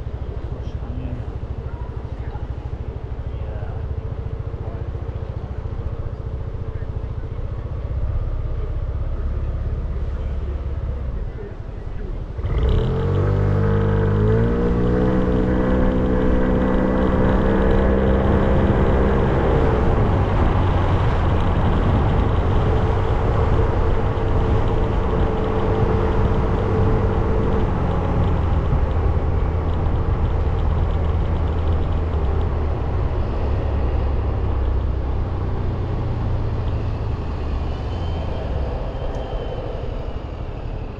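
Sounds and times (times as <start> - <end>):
motorcycle engine accelerating: 0.0 - 40.9
road and wind noise: 0.0 - 40.9.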